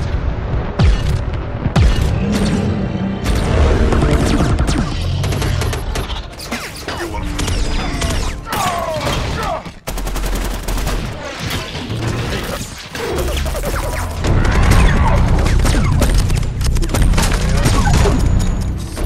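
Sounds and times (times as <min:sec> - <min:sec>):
robot guns firing in volleys: 0:03.3 - 0:19.0.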